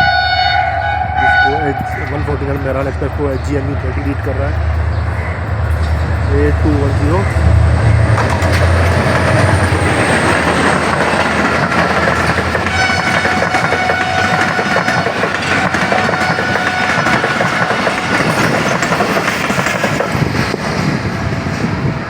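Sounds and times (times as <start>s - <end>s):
train wheels clattering: 2.0s - 21.8s.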